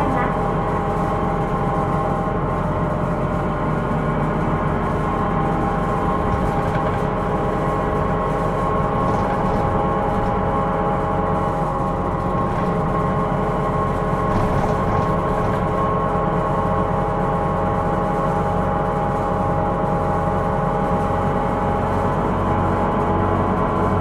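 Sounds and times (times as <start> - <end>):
bus diesel engine rumble: 0.0 - 24.0.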